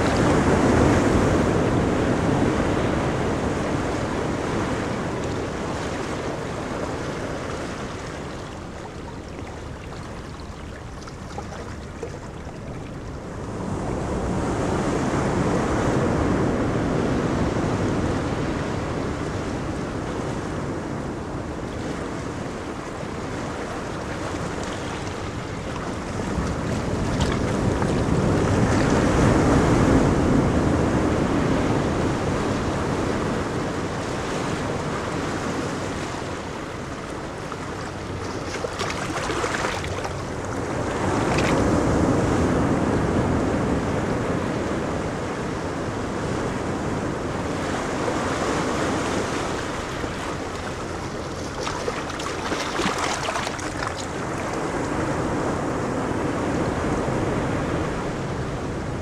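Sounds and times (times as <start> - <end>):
waves breaking: 0.0 - 59.0.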